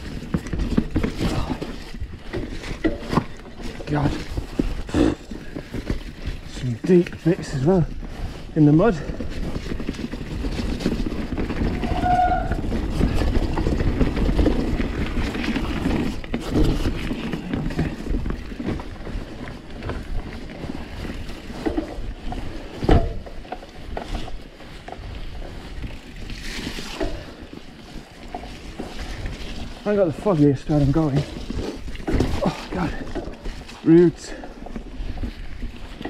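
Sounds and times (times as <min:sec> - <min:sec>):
bike rattles and knocks: 0:00.0 - 0:36.0
mountain bike riding rumble: 0:00.0 - 0:36.0.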